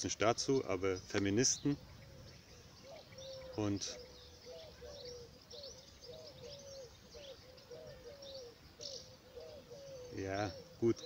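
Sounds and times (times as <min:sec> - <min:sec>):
higher bird chirps: 0:00.0 - 0:11.0
low curved bird notes: 0:00.0 - 0:11.0.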